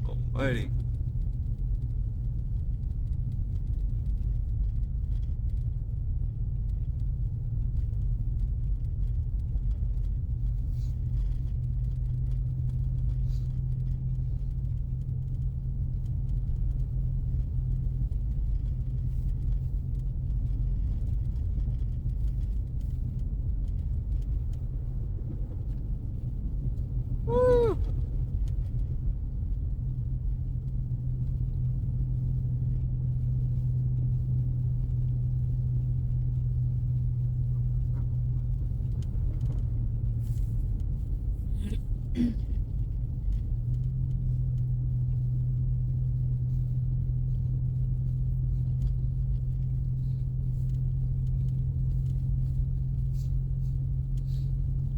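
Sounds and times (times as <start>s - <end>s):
car cabin engine rumble: 0.0s - 54.9s.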